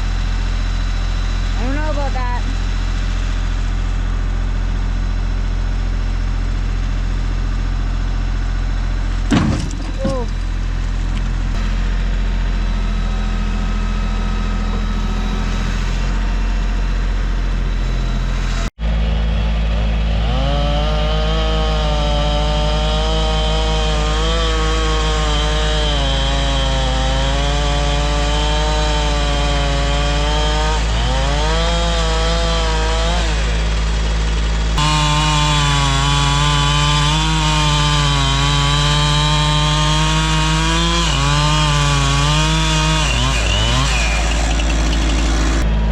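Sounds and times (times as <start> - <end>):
chainsaw cutting a log: 0.0 - 45.9.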